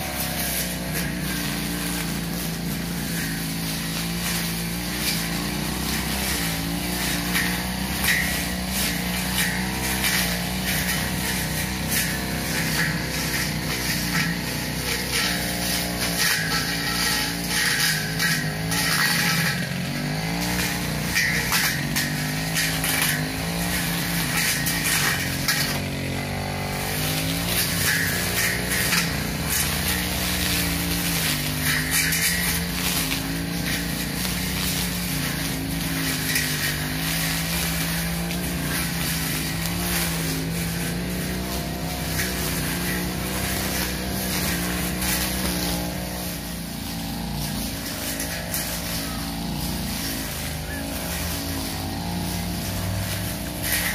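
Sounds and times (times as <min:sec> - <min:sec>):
brush cutter engine running: 0:00.0 - 0:53.9.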